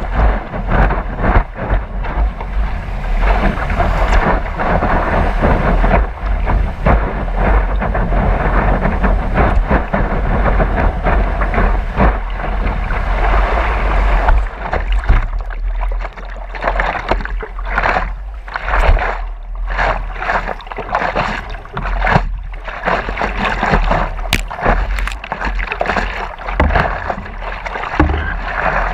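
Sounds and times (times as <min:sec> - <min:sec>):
water rushing and splashing: 0:00.0 - 0:28.9
wind buffeting microphone: 0:00.0 - 0:28.9.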